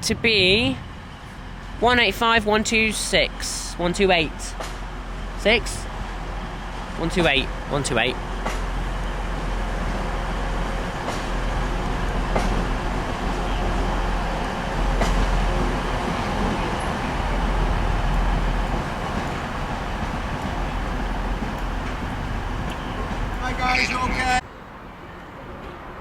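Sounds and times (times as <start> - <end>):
diesel train drone: 0.0 - 26.0.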